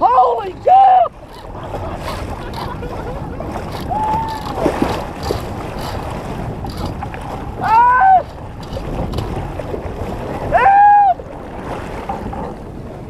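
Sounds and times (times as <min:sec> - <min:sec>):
water rushing against hull: 0:00.0 - 0:13.0
wind on microphone: 0:00.0 - 0:13.0.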